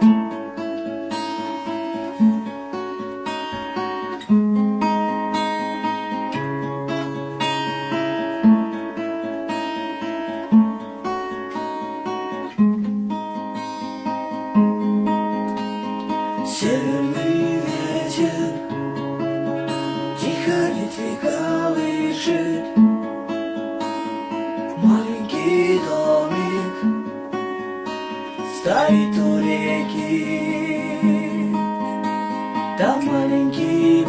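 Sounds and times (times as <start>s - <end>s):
acoustic guitar playing: 0.0s - 34.0s.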